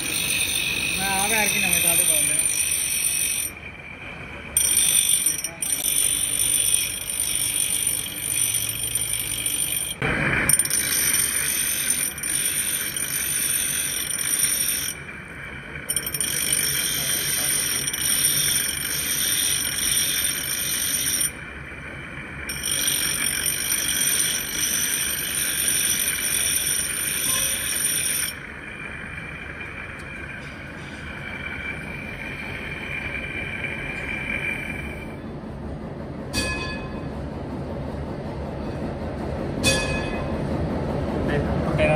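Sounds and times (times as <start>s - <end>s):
grinding wheel whining: 0.0s - 35.4s.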